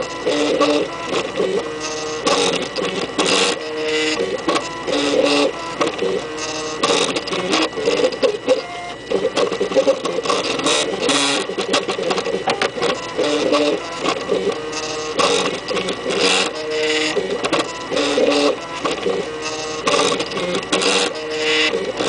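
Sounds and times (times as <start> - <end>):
stepper motors whining: 0.0 - 22.0.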